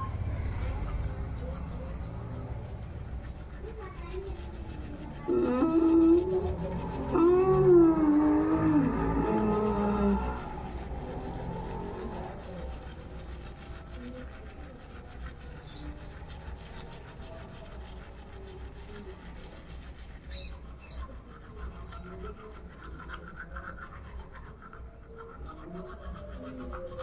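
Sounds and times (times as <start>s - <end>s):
toothbrush scrubbing teeth: 0.3s - 27.0s.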